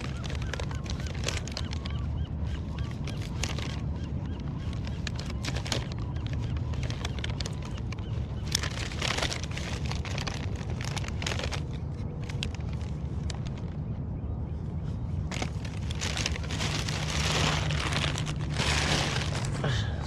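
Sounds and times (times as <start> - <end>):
handling noise crackles: 0.0 - 14.0, 14.8 - 19.8
wind rumbling on microphone: 0.0 - 20.0.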